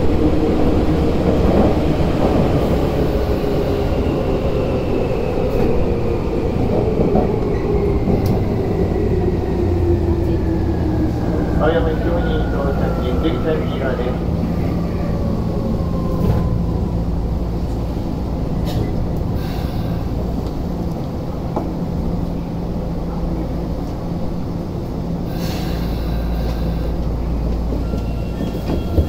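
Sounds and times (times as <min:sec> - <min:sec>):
train running rumble and hum: 0:00.0 - 0:29.0.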